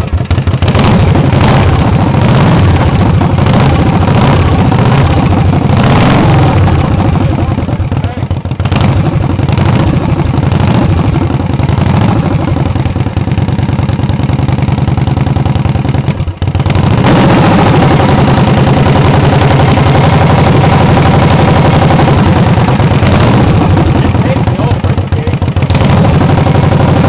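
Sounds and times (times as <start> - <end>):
loud motorcycle engine running: 0.0 - 27.0.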